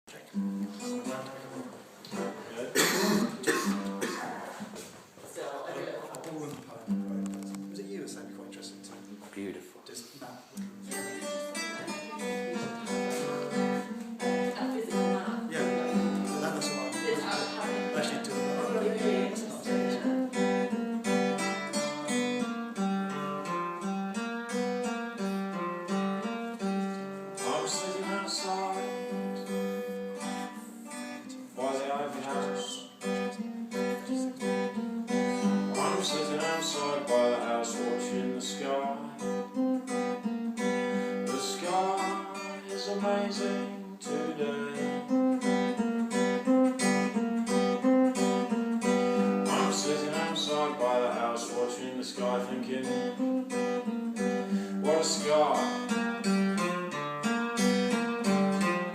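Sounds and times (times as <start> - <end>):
guitar picked and strummed: 0.1 - 4.9, 6.5 - 9.4, 10.5 - 58.9.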